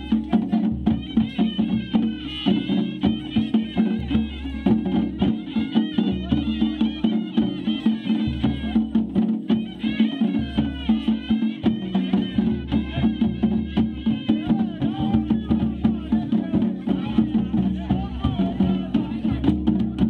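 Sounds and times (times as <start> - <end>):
drums beating fast rhythm: 0.0 - 20.0.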